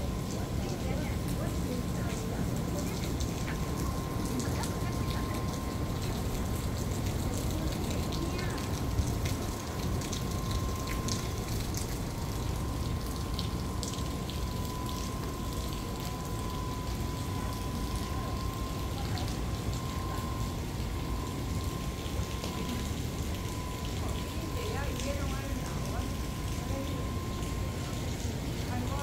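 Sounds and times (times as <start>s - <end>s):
water drips: 0.0s - 29.0s
water sloshing and splashing: 0.0s - 29.0s.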